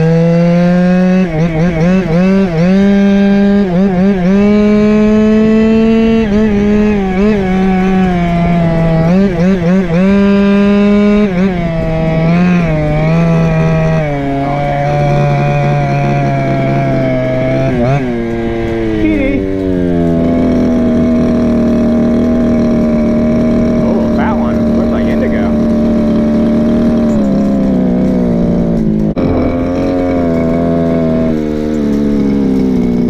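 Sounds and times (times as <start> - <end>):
small two-stroke engine revving: 0.0 - 33.0.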